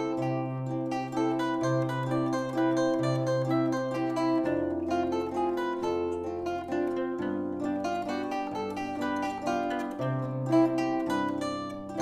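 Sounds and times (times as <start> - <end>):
zither melody: 0.0 - 12.0.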